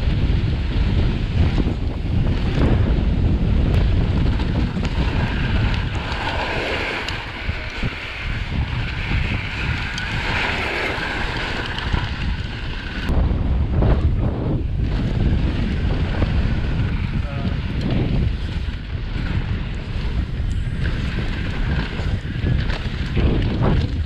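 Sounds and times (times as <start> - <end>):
bike tyres rolling on dirt: 0.0 - 24.0
wind buffeting microphone: 0.0 - 24.0
bike clicks: 0.1 - 24.0.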